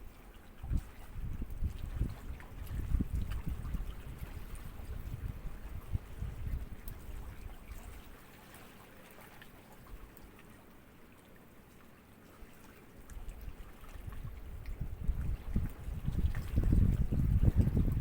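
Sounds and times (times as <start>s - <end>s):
small sea waves lapping: 0.0s - 18.0s
water trickling and dripping: 0.0s - 18.0s.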